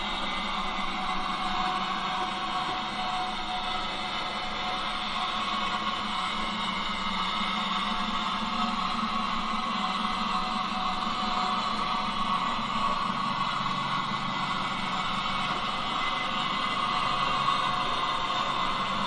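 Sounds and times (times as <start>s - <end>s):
electric locomotive hum with hiss: 0.0s - 19.0s.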